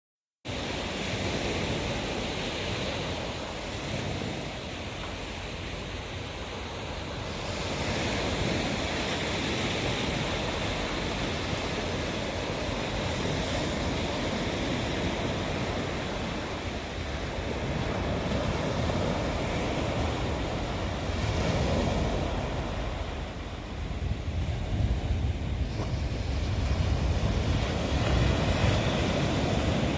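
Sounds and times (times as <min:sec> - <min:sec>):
sea waves washing on shore: 0:00.5 - 0:29.9
wind rumbling on microphone: 0:00.5 - 0:29.9.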